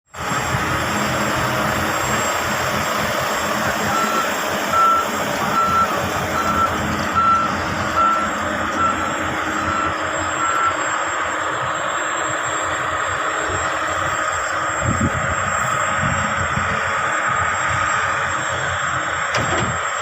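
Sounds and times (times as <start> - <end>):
heavy machinery running: 0.1 - 20.0
reversing alarm beeping: 0.2 - 20.0.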